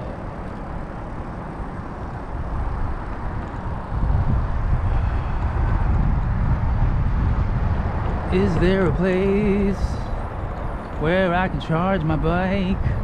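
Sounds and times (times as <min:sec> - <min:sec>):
road noise: 0:00.0 - 0:13.0
wind rumble: 0:00.0 - 0:13.0.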